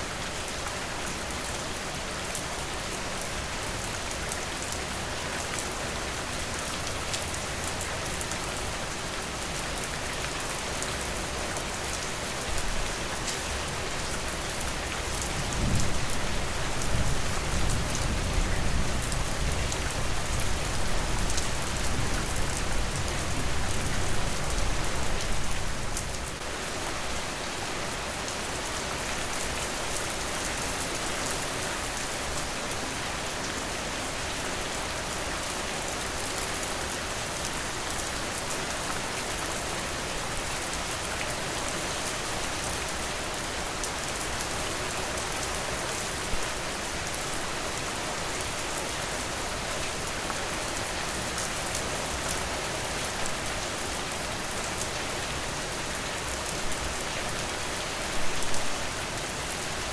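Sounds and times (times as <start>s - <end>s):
rain falling on a porch: 0.0s - 59.9s.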